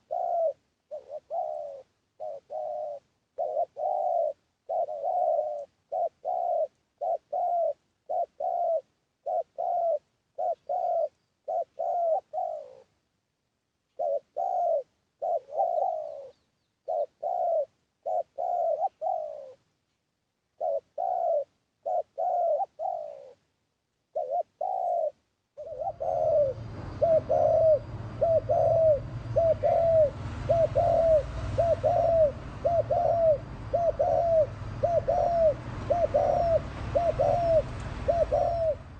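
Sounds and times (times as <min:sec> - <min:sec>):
dove cooing: 0:00.0 - 0:13.0, 0:13.9 - 0:19.7, 0:20.5 - 0:23.5, 0:24.1 - 0:38.9
low hum and hiss: 0:00.0 - 0:38.9.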